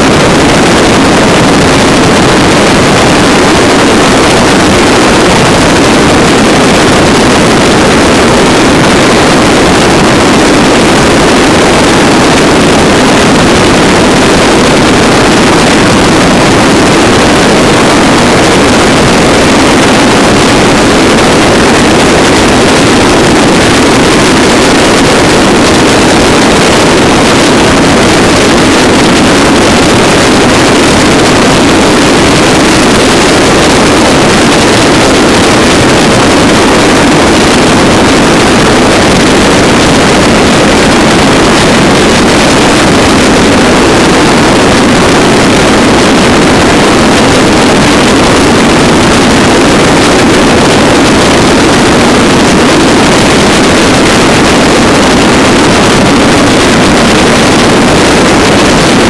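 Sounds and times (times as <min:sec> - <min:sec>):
motorcycle engine drone: 0:00.0 - 0:59.0
wind rush on microphone: 0:00.0 - 0:59.0.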